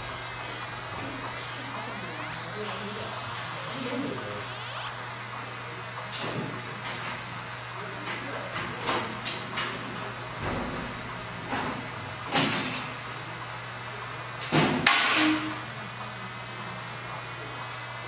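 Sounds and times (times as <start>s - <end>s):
machine hum with high whine: 0.0s - 18.0s.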